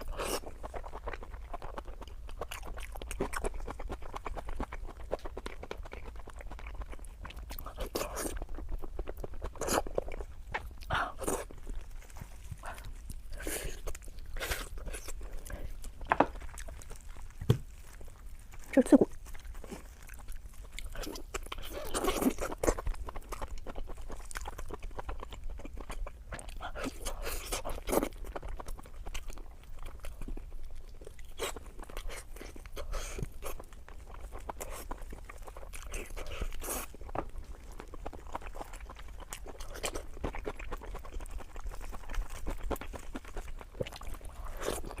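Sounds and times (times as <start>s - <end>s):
chewing crunchy food: 0.0s - 45.0s.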